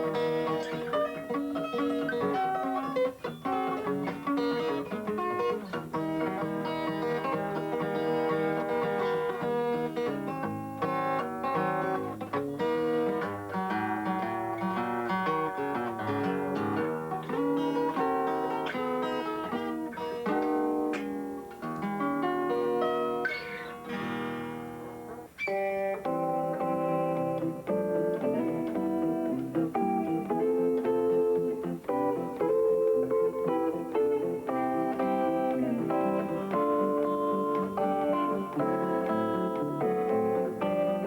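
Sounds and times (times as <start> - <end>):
guitar plucked notes: 0.0 - 41.0.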